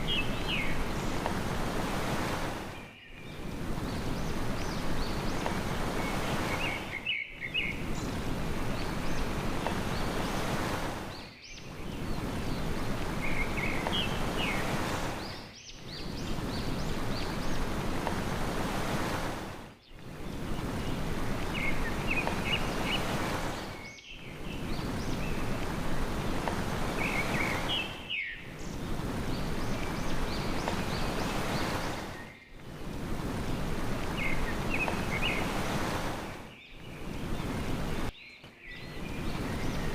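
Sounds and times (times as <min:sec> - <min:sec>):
sea surf: 0:00.0 - 0:38.2, 0:38.8 - 0:39.9
small birds chirping: 0:00.0 - 0:39.9.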